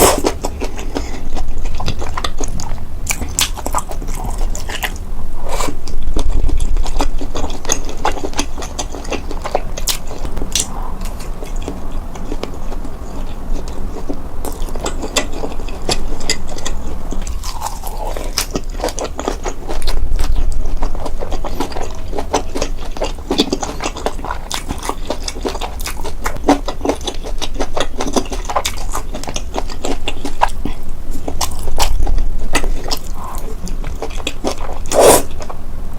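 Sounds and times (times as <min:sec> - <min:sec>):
chewing and biting food: 0:00.0 - 0:35.6.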